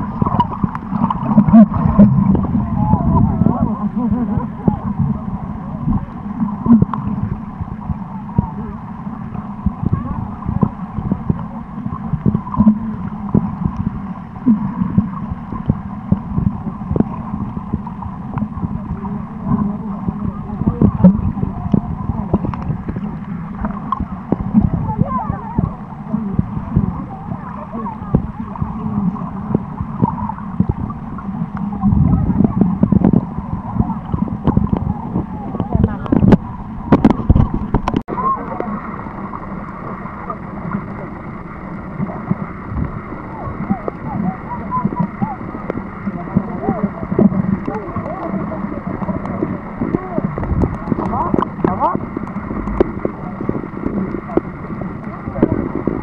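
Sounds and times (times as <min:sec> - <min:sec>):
muffled underwater noise: 0:00.0 - 0:56.0.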